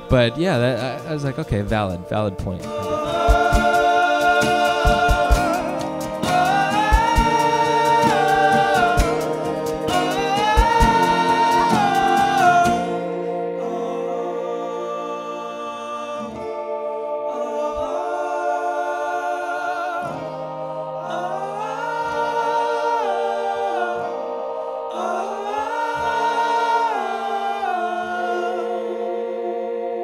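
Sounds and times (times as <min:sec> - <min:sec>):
acoustic guitars: 0:00.0 - 0:30.0
keyboard: 0:00.0 - 0:30.0
men singing in harmony: 0:00.0 - 0:30.0.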